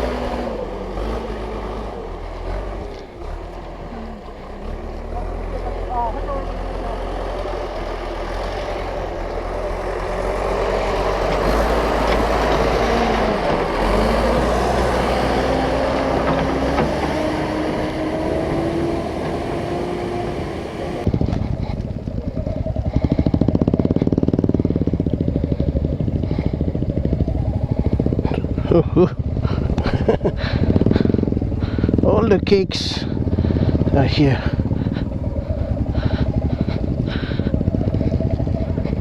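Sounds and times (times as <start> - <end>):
engine chugging at low speed: 0.0 - 39.0
motorcycle engine revving: 0.0 - 39.0.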